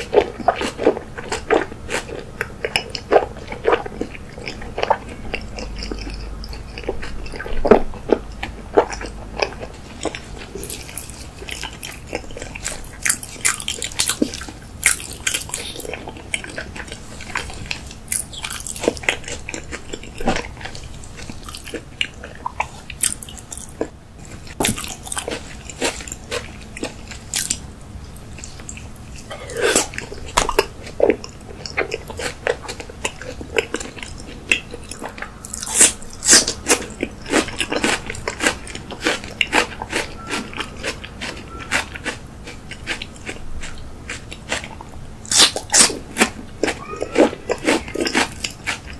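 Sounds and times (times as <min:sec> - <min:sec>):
mouth chewing clicks and smacks: 0:00.0 - 0:48.9.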